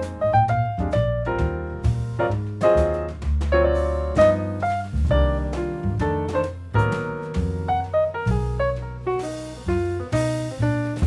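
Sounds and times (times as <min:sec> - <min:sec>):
bass line: 0:00.0 - 0:11.0
jazz piano tune: 0:00.0 - 0:11.0.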